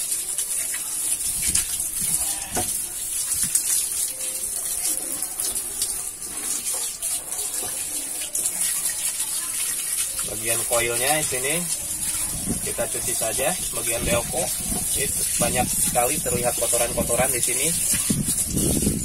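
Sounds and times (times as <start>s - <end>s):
hose water spraying on metal: 0.0s - 19.0s
water splashes: 0.0s - 19.0s.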